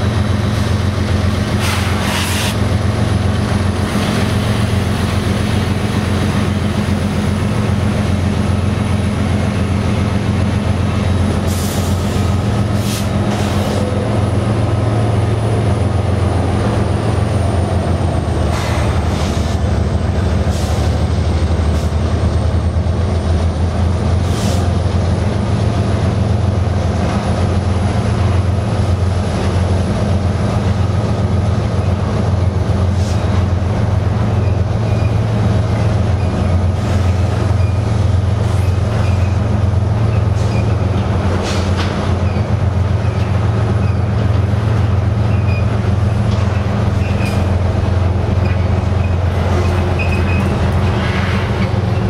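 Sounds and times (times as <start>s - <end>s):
freight train wheels rumbling on rail: 0.0s - 52.0s.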